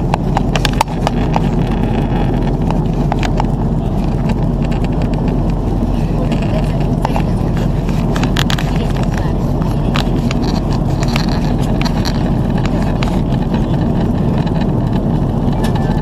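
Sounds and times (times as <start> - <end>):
airplane cabin engine drone: 0.0 - 16.0.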